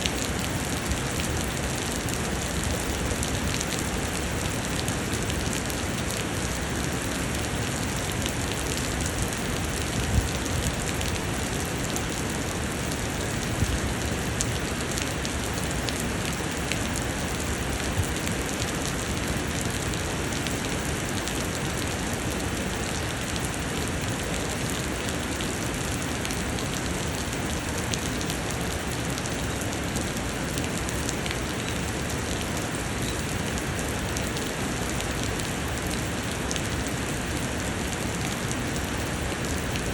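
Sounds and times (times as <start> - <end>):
steady rain pouring: 0.0 - 39.9.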